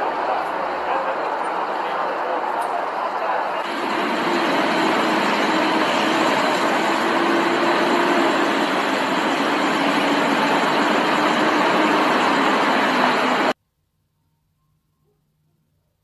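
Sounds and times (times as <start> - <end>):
wet city street hiss: 0.0 - 13.6.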